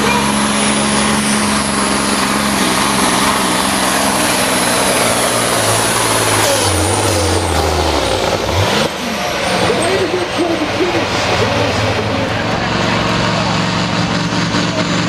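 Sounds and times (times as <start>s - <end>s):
heavy rushing noise: 0.0s - 15.0s
truck diesel engine at full throttle: 0.0s - 15.0s.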